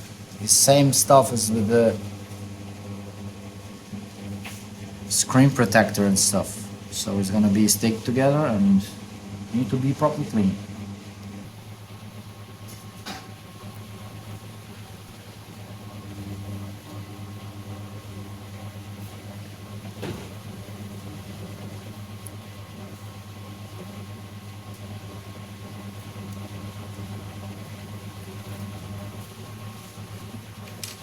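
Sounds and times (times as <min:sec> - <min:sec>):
low machine hum: 0:00.0 - 0:31.0.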